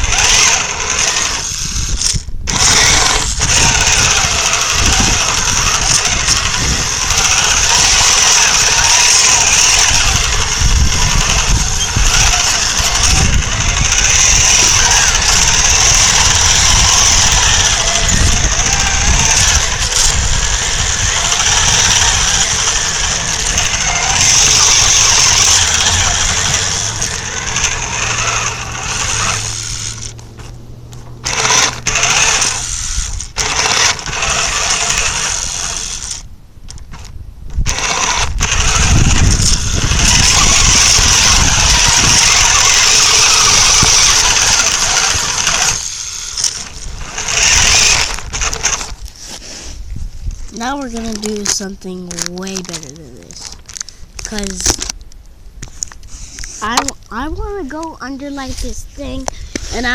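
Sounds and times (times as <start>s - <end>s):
electric toy truck motor whining: 0.0s - 36.3s, 36.9s - 55.0s, 55.6s - 57.4s, 58.2s - 59.9s.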